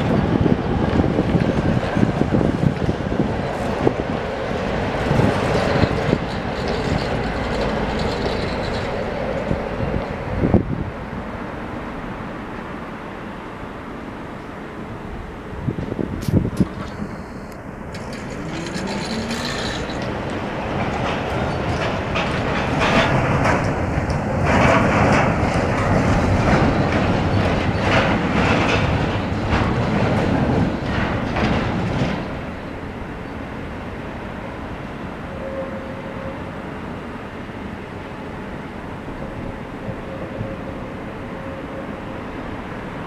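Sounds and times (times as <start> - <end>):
tram wheels clattering over rail joints: 0.0 - 12.5, 15.5 - 43.0.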